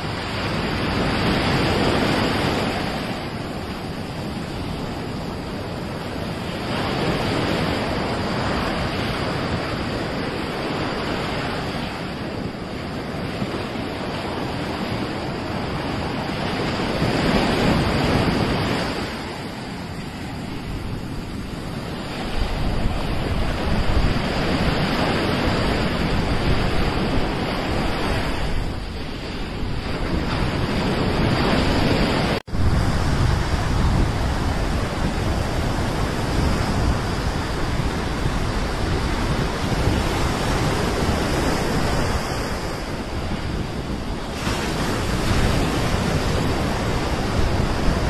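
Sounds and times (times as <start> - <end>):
sea surf washing on beach: 0.0 - 48.0
wind rumbling on microphone: 0.0 - 48.0.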